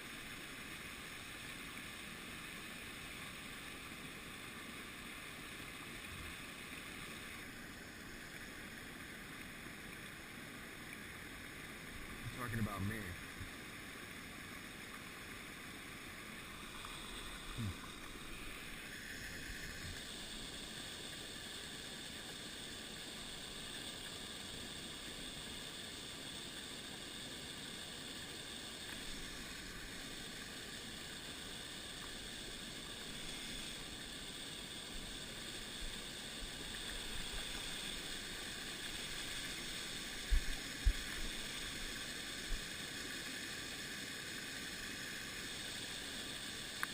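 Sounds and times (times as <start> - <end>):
creek water running: 0.0 - 46.9.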